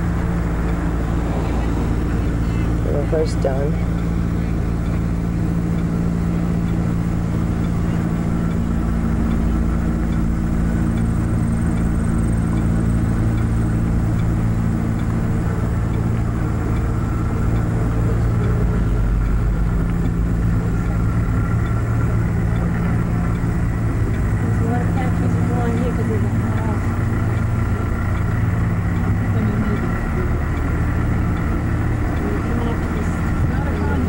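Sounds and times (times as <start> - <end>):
car engine hum: 0.0 - 34.0
road noise rush: 0.0 - 34.0.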